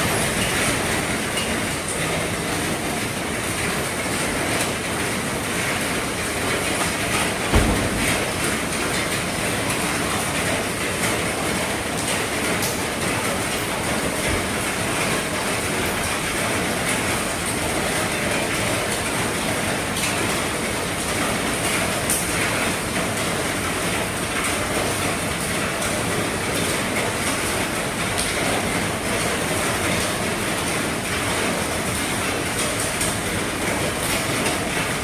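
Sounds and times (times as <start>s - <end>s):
heavy rain on a roof: 0.0s - 35.0s.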